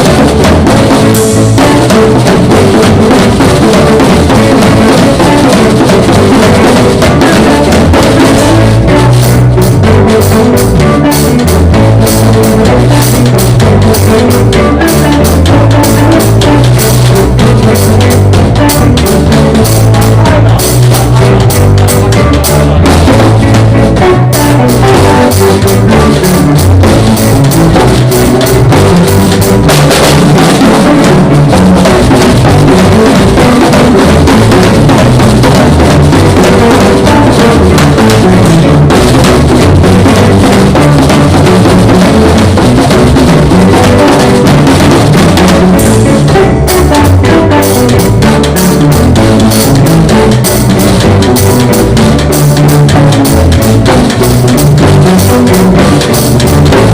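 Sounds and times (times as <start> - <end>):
drum kit: 0.0 - 56.9
live band playing: 0.0 - 56.9.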